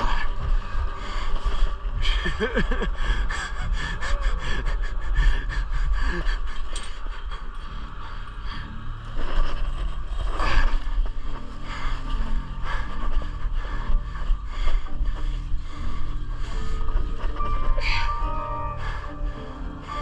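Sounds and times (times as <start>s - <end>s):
heavy gasping breaths: 0.0s - 20.0s
low rumble: 0.0s - 20.0s.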